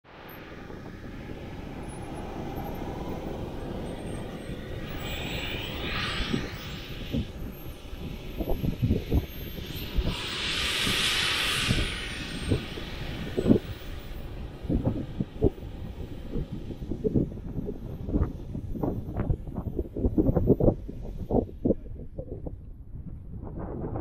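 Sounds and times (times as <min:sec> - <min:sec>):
model jet engine running: 0:00.2 - 0:21.6.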